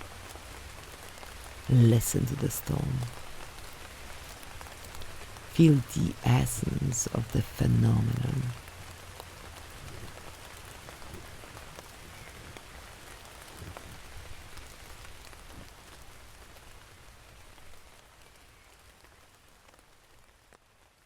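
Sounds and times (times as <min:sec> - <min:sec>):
rain falling in a storm: 0:00.0 - 0:21.0.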